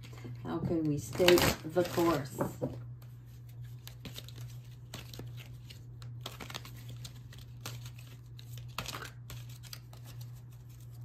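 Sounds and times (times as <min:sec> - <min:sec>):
cards being shuffled: 0:01.1 - 0:02.4, 0:03.0 - 0:11.0.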